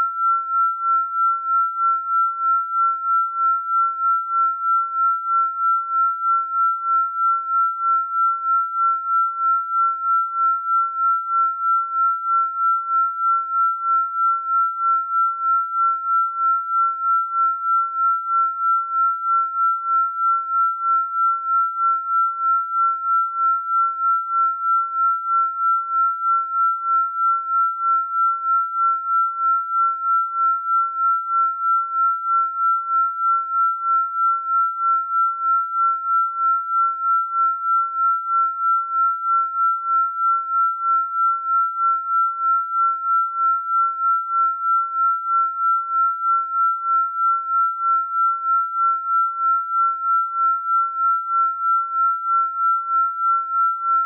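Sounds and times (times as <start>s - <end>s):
pulsing high sine tone: 0.0s - 54.0s.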